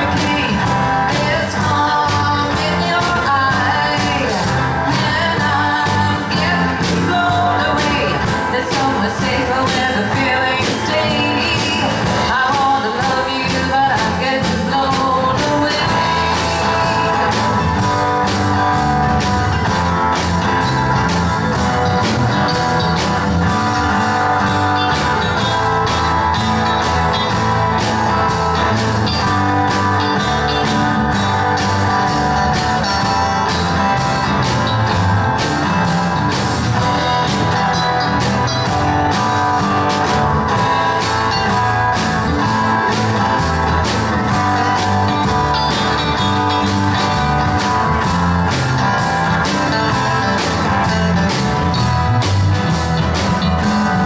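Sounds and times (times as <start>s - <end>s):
acoustic guitar strumming: 0.0s - 54.0s
drum kit steady beat: 0.0s - 54.0s
electric guitar: 0.0s - 54.0s.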